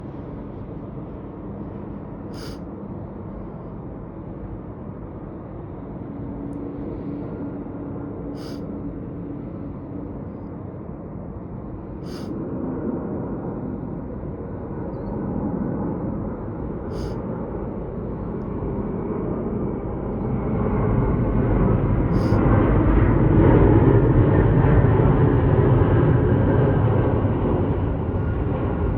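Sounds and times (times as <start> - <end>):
faint hum: 0.0 - 28.9
jet engines rumbling: 0.0 - 28.9.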